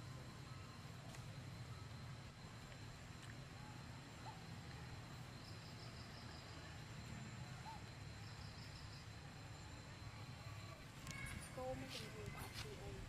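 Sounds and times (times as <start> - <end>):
insects droning: 0.0 - 13.0
steady low hum: 0.0 - 13.0.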